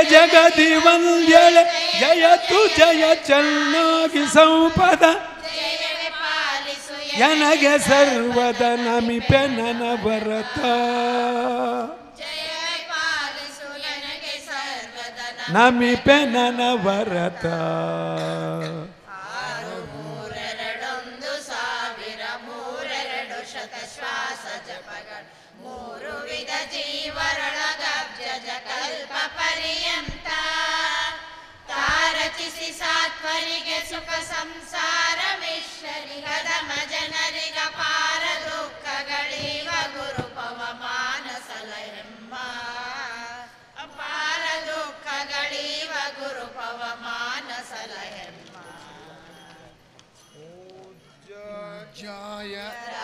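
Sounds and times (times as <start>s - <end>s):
devotional chanting: 0.0s - 53.0s.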